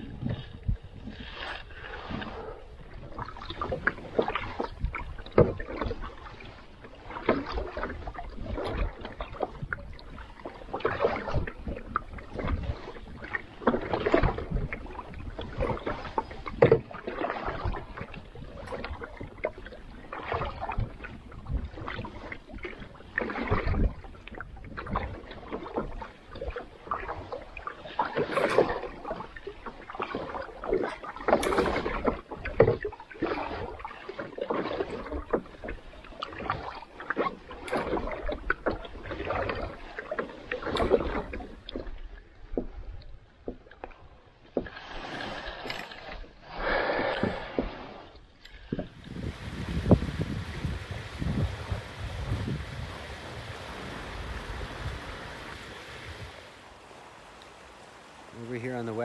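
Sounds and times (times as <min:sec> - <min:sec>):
paddle splashing in water: 0:00.0 - 0:59.0.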